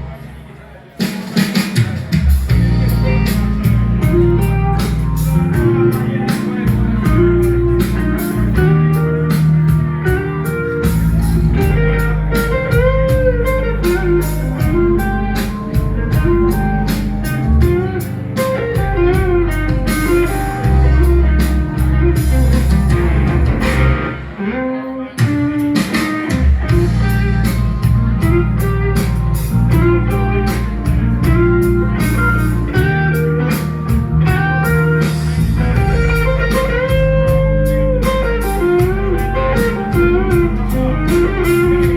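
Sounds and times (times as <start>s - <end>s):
blues-rock band playing: 1.3s - 41.9s
electric guitar lead: 2.5s - 41.9s.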